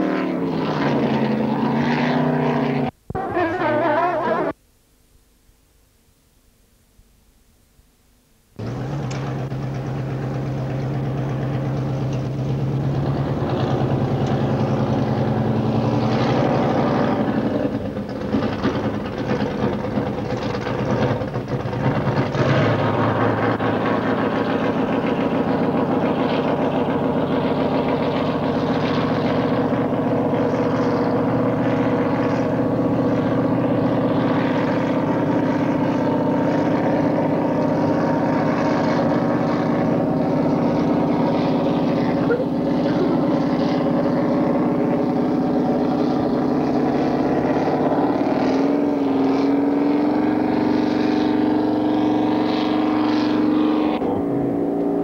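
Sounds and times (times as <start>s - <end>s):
powerboat engines at high speed: 0.0s - 4.6s, 8.6s - 55.0s.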